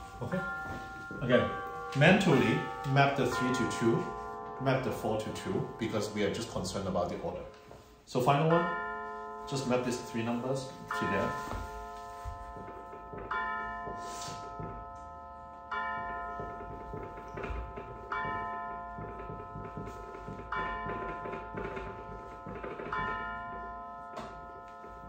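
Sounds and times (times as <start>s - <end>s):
clock striking on gong: 0.0s - 7.7s, 8.5s - 25.0s.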